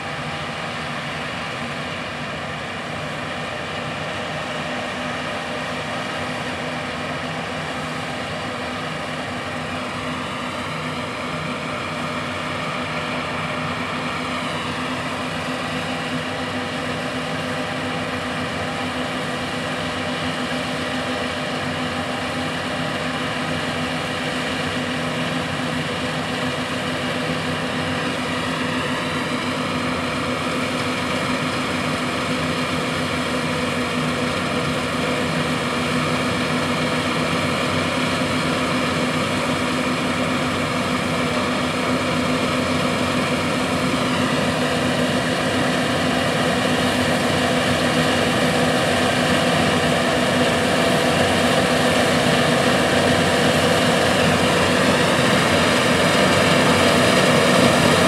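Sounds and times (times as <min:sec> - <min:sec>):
combine harvesters droning: 0:00.0 - 0:58.0.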